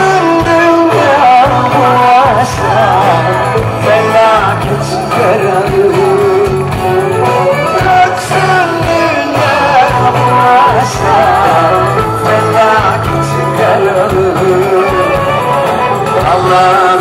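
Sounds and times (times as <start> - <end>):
bass line: 0.0 - 17.0
drums: 0.0 - 17.0
ornamented lead melody: 0.0 - 17.0.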